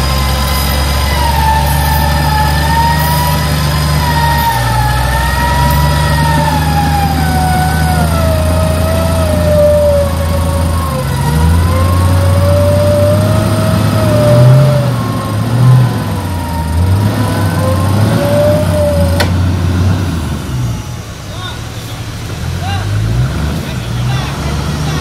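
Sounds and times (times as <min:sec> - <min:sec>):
electric winch whining: 0:00.0 - 0:22.8
engine running low: 0:00.0 - 0:25.0.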